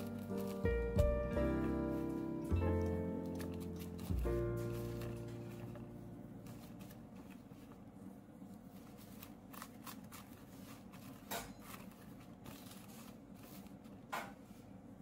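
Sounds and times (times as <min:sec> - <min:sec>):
sugar rustling and scraping: 0:00.0 - 0:14.7
low steady hum: 0:00.0 - 0:15.0.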